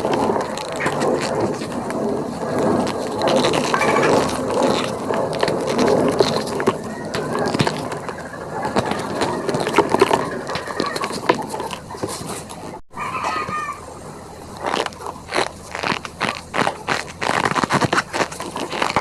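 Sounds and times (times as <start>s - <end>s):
powder crunching and squeaking: 0.0s - 19.0s.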